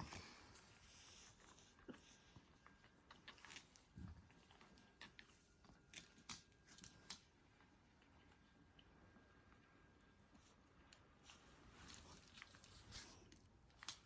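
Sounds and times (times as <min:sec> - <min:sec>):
faint small clicks and ticks: 0:01.8 - 0:14.0.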